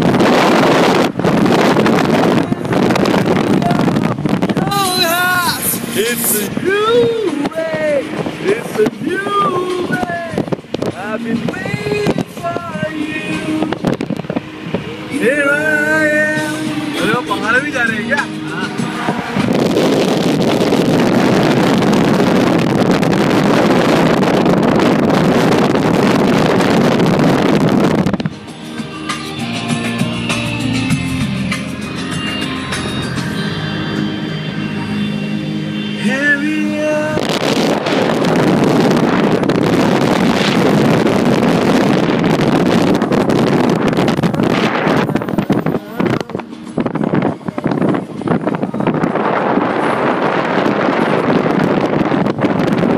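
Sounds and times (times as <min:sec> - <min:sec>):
road noise: 0:00.0 - 0:52.9
wind buffeting microphone: 0:00.0 - 0:52.9.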